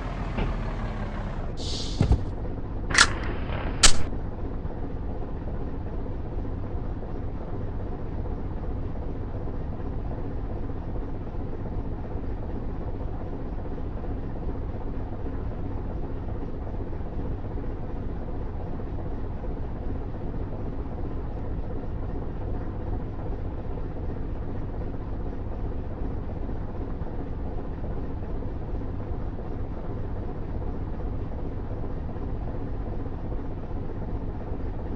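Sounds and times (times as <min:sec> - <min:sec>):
faint engine hum: 0:00.0 - 0:34.9
truck engine and road rumble: 0:00.0 - 0:34.9.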